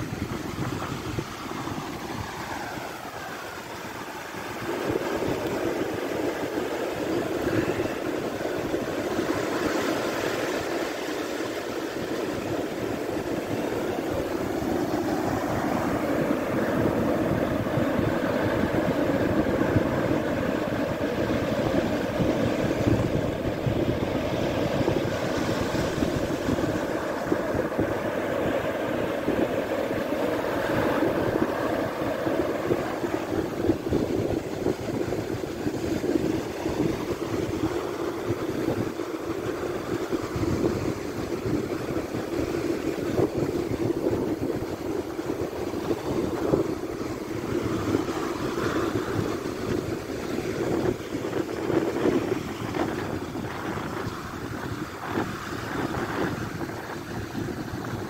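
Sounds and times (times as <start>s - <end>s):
surf breaking on beach: 0.0s - 58.0s.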